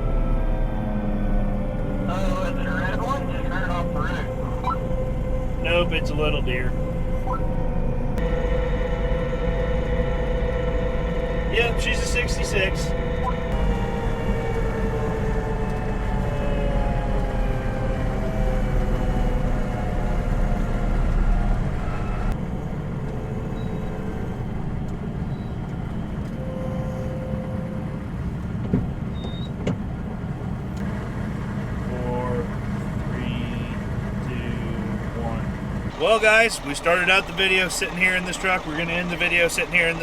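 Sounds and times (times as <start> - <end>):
road rumble: 0.0 - 40.0
truck engine running: 0.0 - 40.0.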